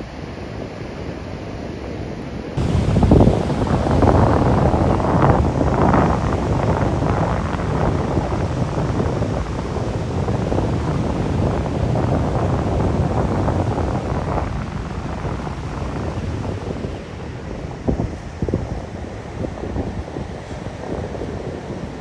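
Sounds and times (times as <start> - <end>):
sea surf washing in: 0.0 - 22.0
wind blowing across microphone: 0.0 - 22.0.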